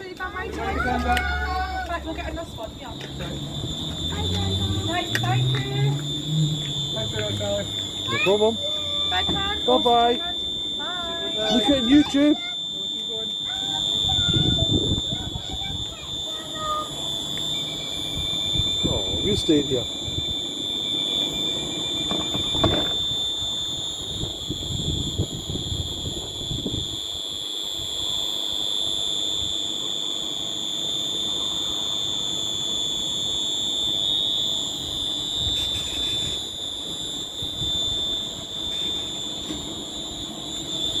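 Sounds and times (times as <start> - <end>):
train high-pitched whine: 0.0 - 41.0.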